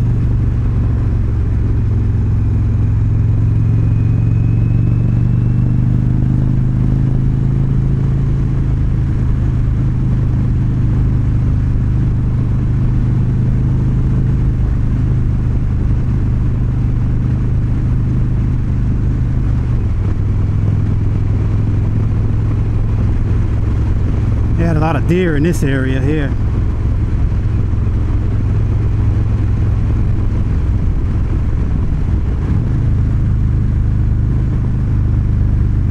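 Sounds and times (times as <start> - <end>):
motorcycle engine cruising: 0.0 - 35.9.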